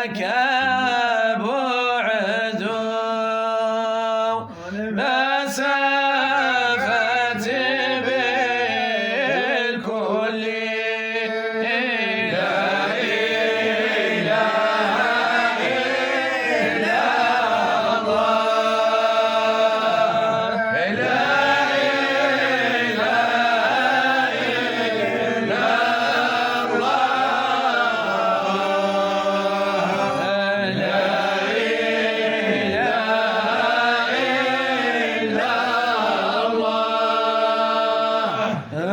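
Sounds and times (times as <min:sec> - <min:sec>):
man chanting devotional song: 0:00.0 - 0:38.9.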